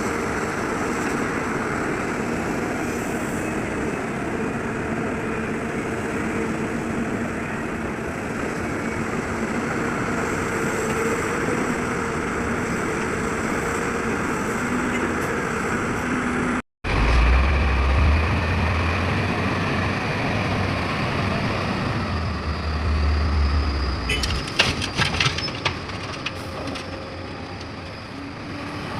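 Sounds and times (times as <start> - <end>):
heavy diesel engines running: 0.0 - 28.9.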